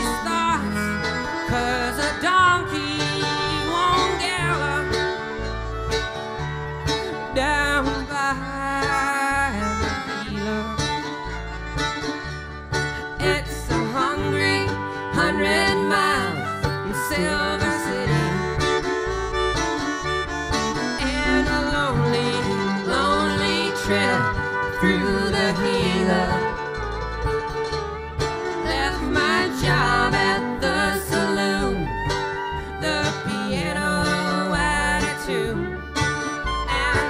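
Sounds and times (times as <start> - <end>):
banjo: 0.0 - 37.0
bass: 0.0 - 37.0
strummed guitar: 0.0 - 37.0.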